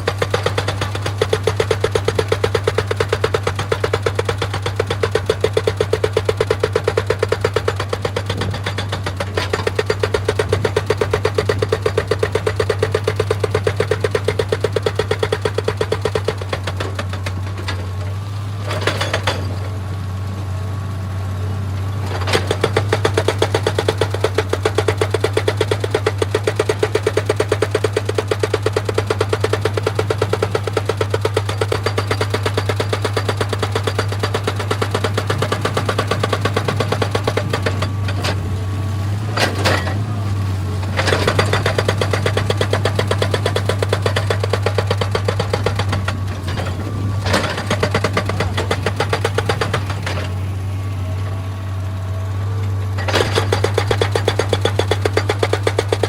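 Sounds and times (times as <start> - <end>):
hydraulic breaker hammering stone: 0.0 - 19.7, 22.0 - 50.5, 52.9 - 56.0
diesel engine running: 0.0 - 56.0.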